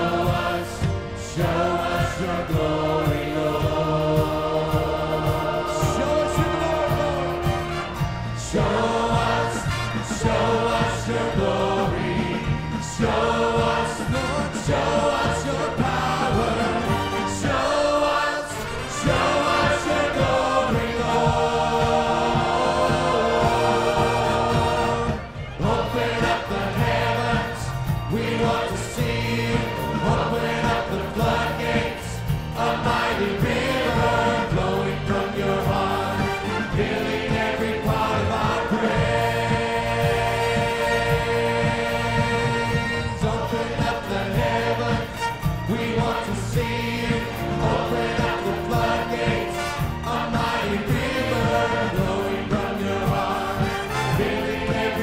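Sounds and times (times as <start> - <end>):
live band drums and bass: 0.0 - 17.7, 18.7 - 55.0
choir singing worship song: 0.0 - 55.0.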